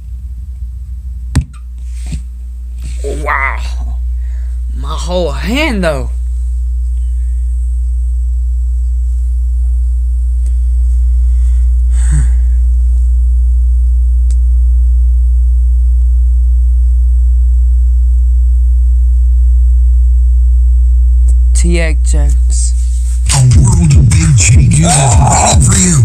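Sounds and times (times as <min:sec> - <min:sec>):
deep bass tone: 0:03.0 - 0:26.0.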